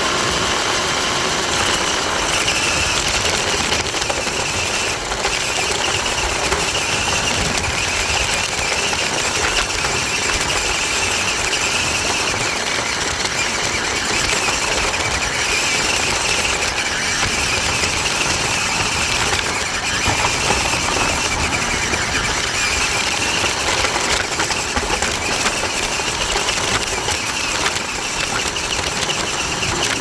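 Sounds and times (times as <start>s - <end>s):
toy truck motor whine: 0.0s - 30.0s
wheels rumbling and rattling: 0.0s - 30.0s.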